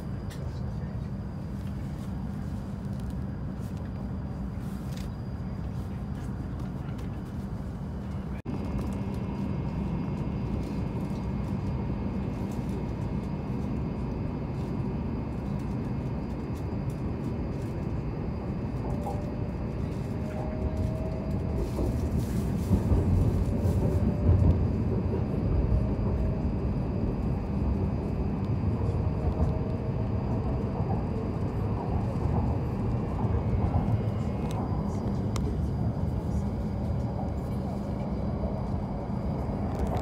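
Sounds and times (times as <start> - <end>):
train running rumble: 0.0 - 40.0.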